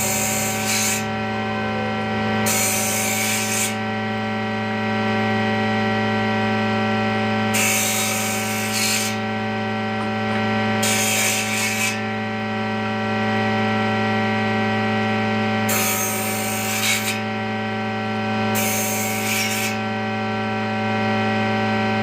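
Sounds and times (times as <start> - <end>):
power tool humming: 0.0 - 22.0.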